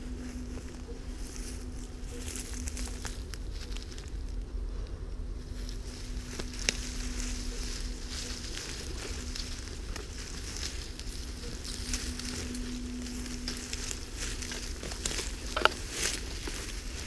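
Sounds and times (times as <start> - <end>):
brush rustling and crackling: 0.0 - 17.0.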